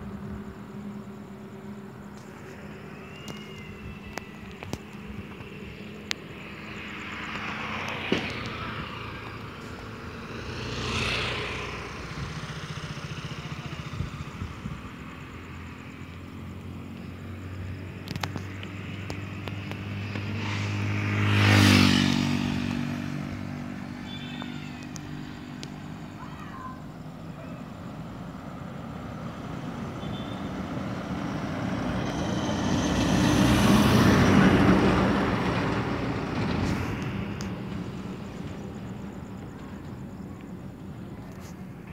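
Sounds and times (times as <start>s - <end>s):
highway traffic passing: 0.0s - 41.9s.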